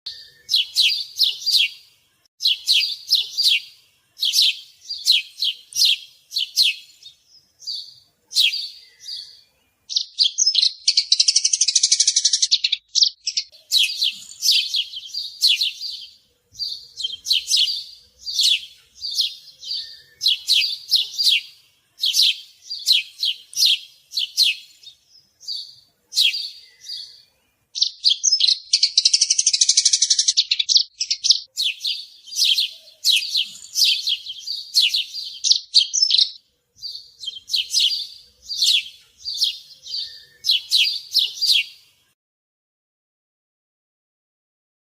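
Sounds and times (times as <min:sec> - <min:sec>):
sparrows chirping: 0:00.1 - 0:42.2.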